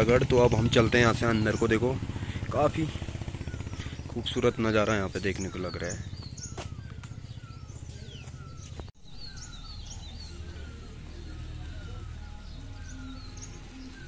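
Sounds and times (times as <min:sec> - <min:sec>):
birds whistling and chirping: 0:00.0 - 0:14.0.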